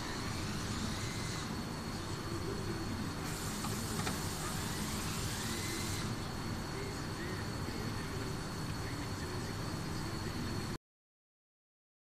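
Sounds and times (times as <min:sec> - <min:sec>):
high hiss: 0:00.0 - 0:10.5
workshop rumble: 0:00.0 - 0:10.8.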